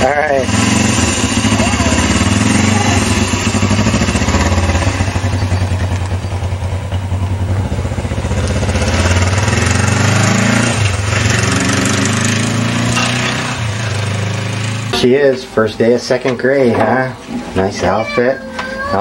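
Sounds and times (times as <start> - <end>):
motorcycle engine pulling away: 0.0 - 16.0.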